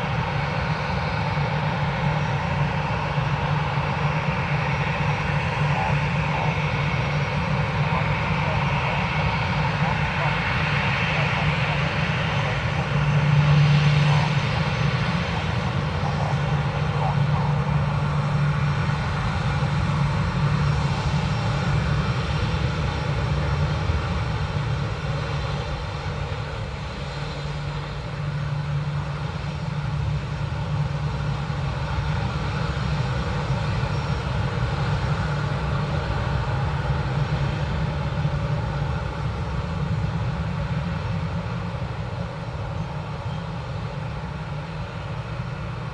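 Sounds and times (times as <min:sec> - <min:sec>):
jet engines droning: 0:00.0 - 0:45.9.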